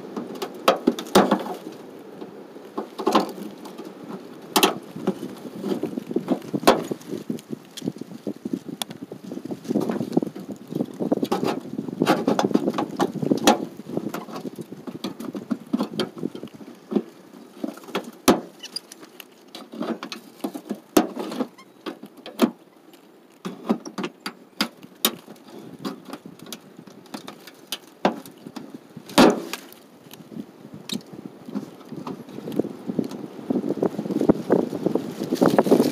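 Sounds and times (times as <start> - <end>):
scraping and rustling: 0.0 - 35.9.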